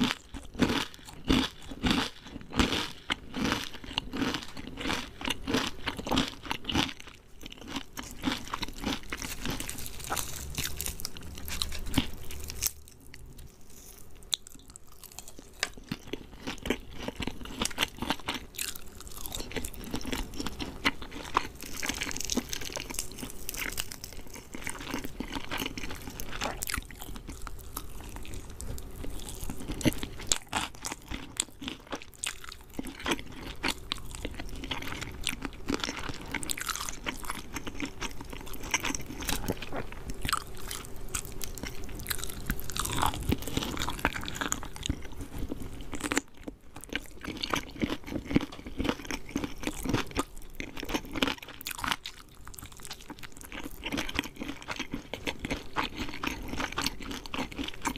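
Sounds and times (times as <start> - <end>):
person chewing crispy chicken: 0.0 - 57.9.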